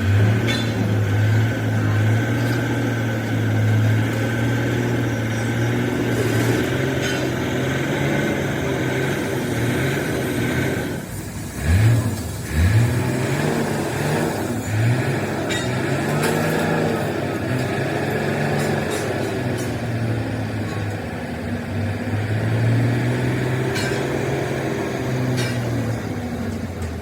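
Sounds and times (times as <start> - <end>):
engine humming and revving: 0.0 - 27.0.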